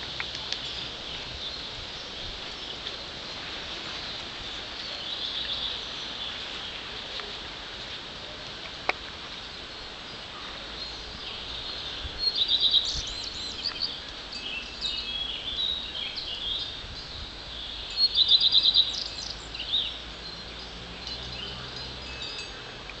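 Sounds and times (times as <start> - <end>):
songbird singing loud phrase: 0.0 - 7.4, 8.3 - 23.0
steady high hiss: 0.0 - 23.0
soft bird chirps: 0.1 - 7.4, 9.3 - 23.0.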